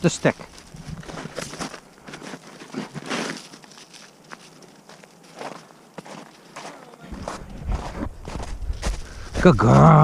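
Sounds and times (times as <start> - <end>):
soft footsteps: 0.2 - 9.8.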